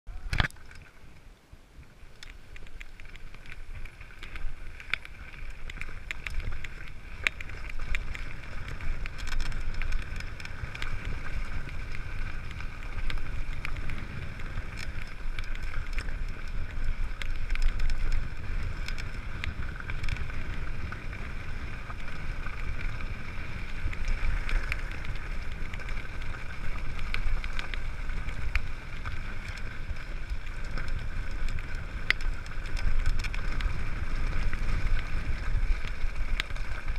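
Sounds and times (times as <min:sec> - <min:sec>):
bike clicks and rattles: 0:00.1 - 0:01.2, 0:02.0 - 0:36.9
wind rumbling on microphone: 0:00.1 - 0:36.9
tyres on gravel: 0:01.9 - 0:36.9.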